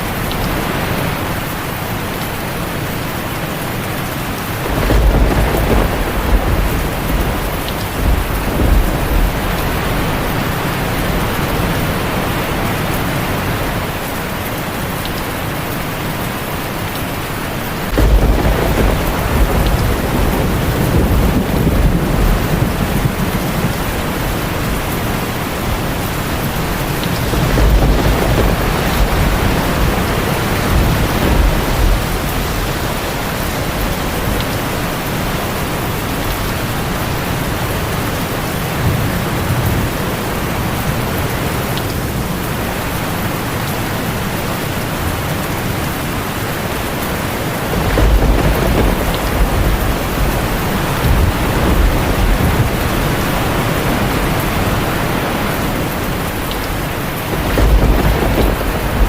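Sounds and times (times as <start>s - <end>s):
heavy rain on a tin roof: 0.0s - 59.0s
low thunder rumbling: 4.3s - 14.5s, 17.5s - 43.0s, 44.7s - 59.0s.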